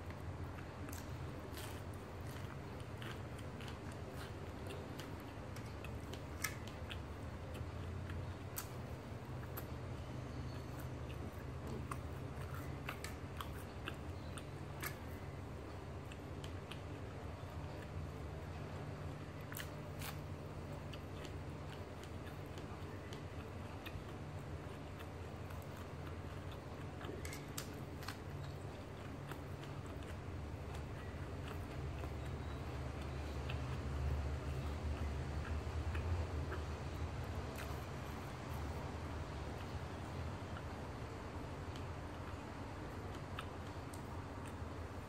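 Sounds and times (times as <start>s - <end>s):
crisp chewing crackles: 0.0s - 45.0s
steady low hum: 0.0s - 45.0s.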